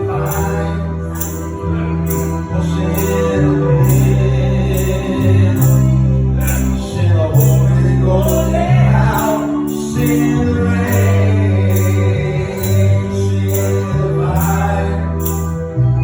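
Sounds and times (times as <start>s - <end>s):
gospel band music: 0.0s - 16.0s
heavy bass line: 0.0s - 16.0s
person singing: 0.0s - 16.0s
percussion beat: 0.3s - 6.8s, 7.4s - 15.6s.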